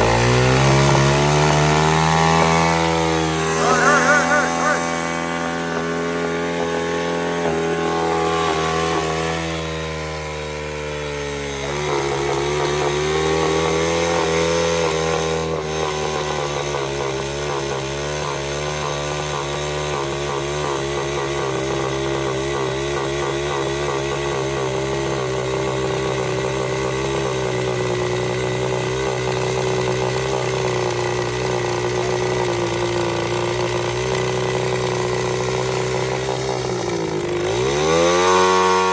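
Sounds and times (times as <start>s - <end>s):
small motorbike engine revving: 0.0s - 38.9s.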